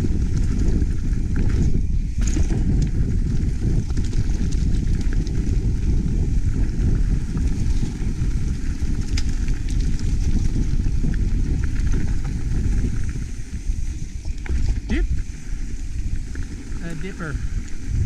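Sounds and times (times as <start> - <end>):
bike clicks and rattles: 0.0 - 16.8, 17.4 - 18.0
wind and tyres rumbling: 0.0 - 18.0.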